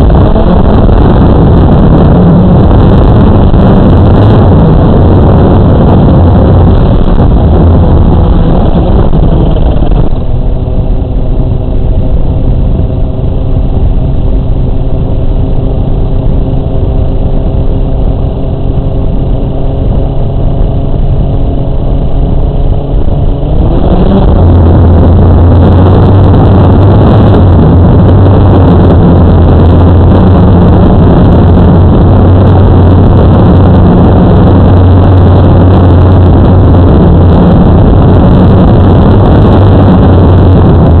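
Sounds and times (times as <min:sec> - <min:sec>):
drone rising whine: 0:00.0 - 0:41.0.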